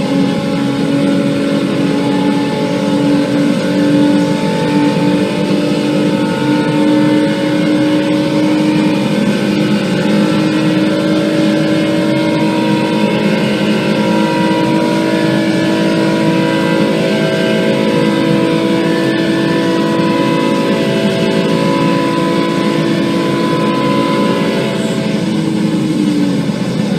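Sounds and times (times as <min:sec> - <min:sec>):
car engine running steadily: 0:00.0 - 0:26.9.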